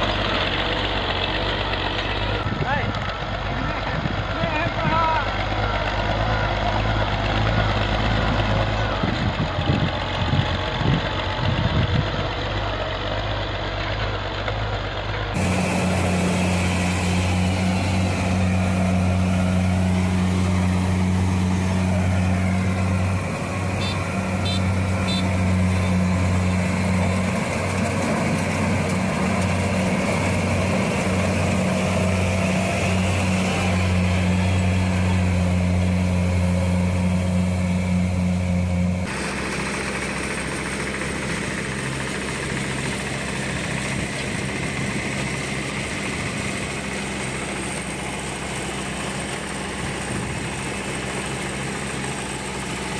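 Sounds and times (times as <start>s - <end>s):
engine low hum: 0.0s - 52.9s
walking tractor engines running: 0.0s - 52.9s.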